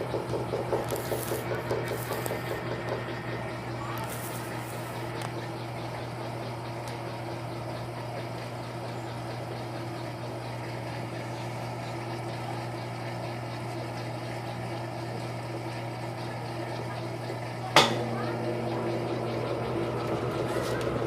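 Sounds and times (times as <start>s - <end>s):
washing machine churning: 0.0s - 21.0s.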